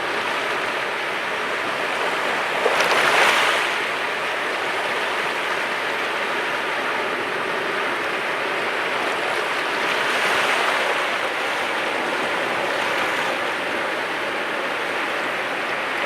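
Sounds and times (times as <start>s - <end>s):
sea waves washing onto shore: 0.0s - 16.0s.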